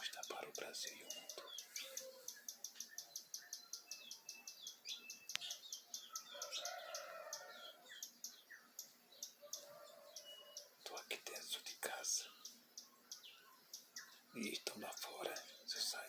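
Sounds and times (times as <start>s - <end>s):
flock of small birds chirping: 0.0s - 16.0s.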